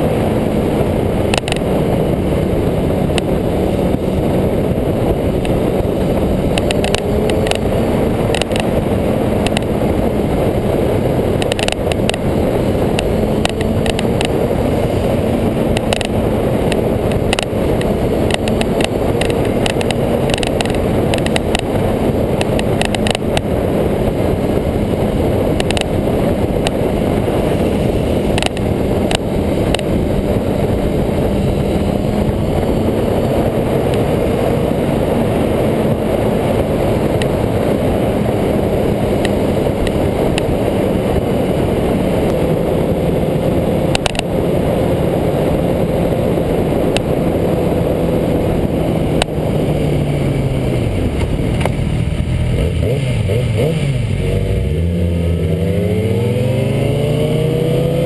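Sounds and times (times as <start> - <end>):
motorcycle engine hum: 0.0 - 58.0
wind rush: 0.0 - 58.0.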